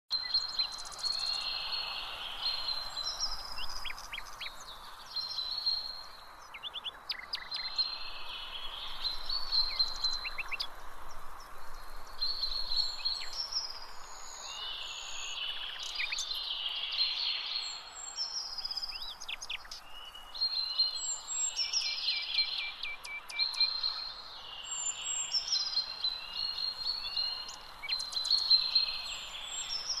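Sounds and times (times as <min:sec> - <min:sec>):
background hiss: 0:00.1 - 0:30.0
songbirds chirping and singing: 0:00.1 - 0:30.0.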